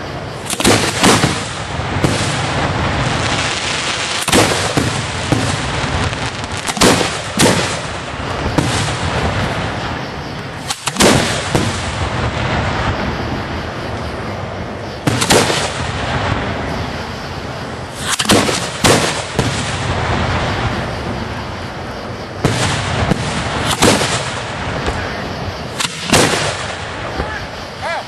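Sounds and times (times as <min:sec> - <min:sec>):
background noise: 0:00.0 - 0:28.0
fireworks booms: 0:00.0 - 0:28.0.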